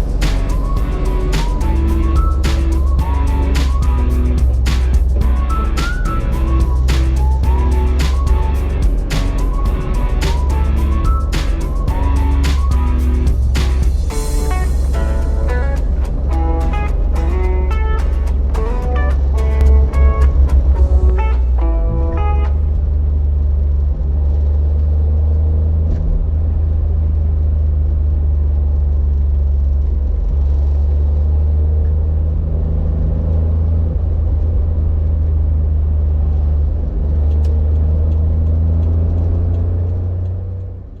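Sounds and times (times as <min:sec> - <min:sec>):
car engine droning: 0:00.0 - 0:41.0.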